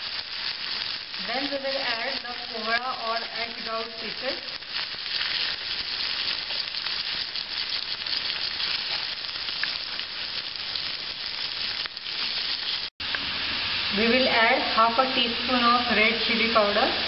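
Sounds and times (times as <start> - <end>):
hot oil sizzling in a pan: 0.0 - 17.0.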